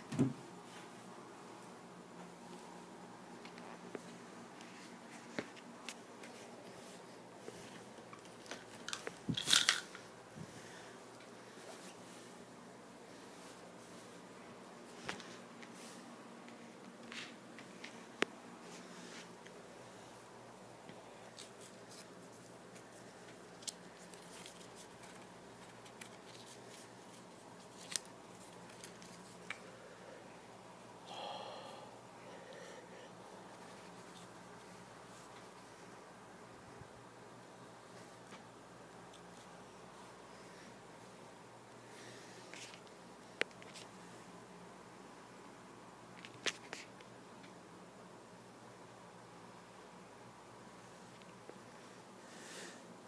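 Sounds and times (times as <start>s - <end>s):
steady low hiss: 0.0s - 53.0s.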